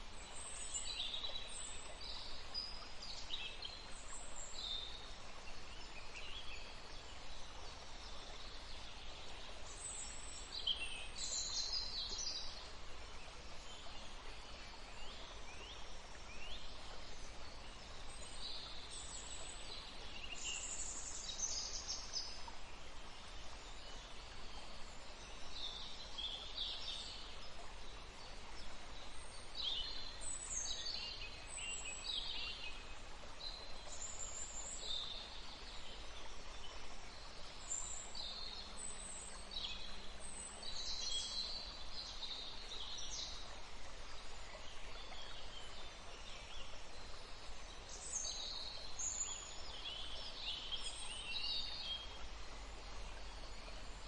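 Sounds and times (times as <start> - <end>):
running water hiss: 0.0 - 54.0.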